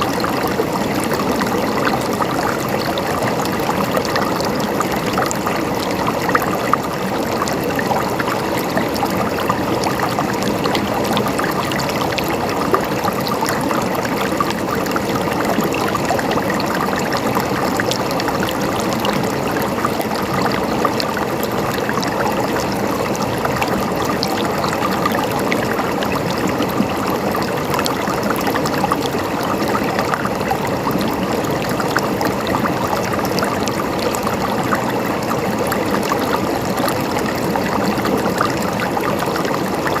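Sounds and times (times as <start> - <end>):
river flowing over rocks: 0.0 - 40.0.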